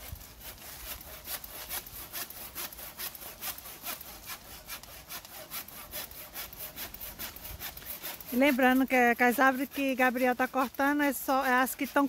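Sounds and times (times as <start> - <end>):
hand saw cutting wood: 0.0 - 12.0.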